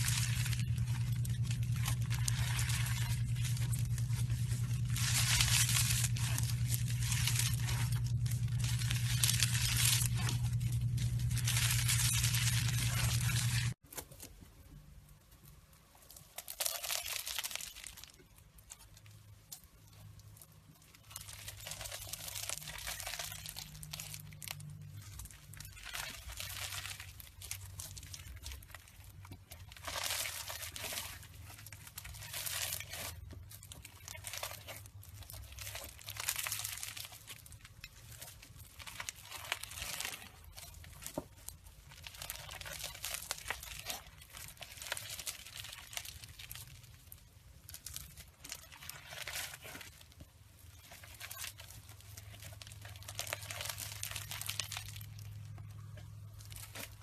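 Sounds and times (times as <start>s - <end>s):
hands squeezing crackling slime: 0.0s - 13.8s, 15.6s - 57.0s.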